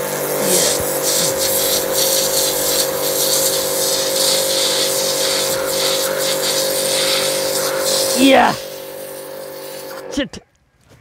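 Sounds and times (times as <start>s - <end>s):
pressure washer motor hum: 0.0s - 10.2s
water jet hissing on brick: 0.0s - 10.2s.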